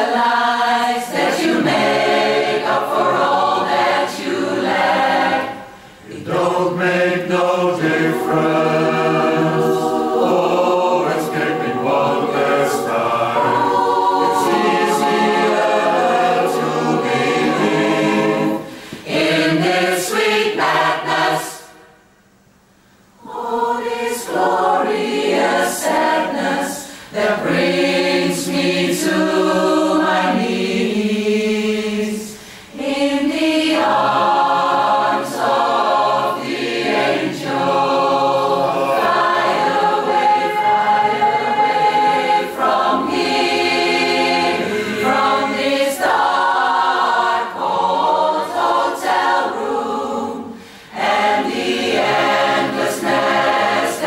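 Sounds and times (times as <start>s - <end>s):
choir singing a cappella: 0.0s - 22.1s, 23.2s - 54.0s.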